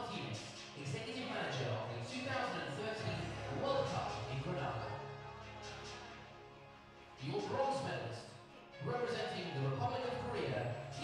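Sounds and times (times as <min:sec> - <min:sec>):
quiet music with held notes: 0:00.0 - 0:11.0.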